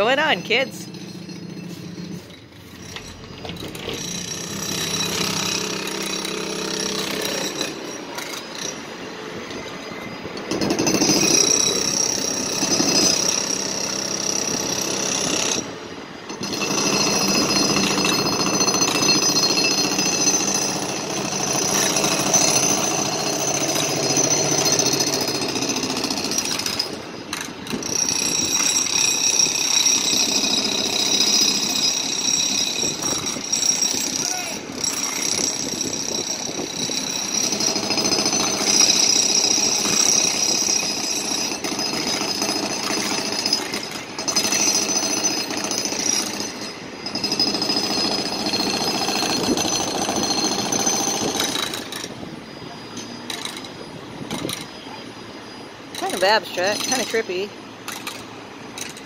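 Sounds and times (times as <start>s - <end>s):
jackhammer on pavement: 0.0s - 55.0s, 55.8s - 59.0s.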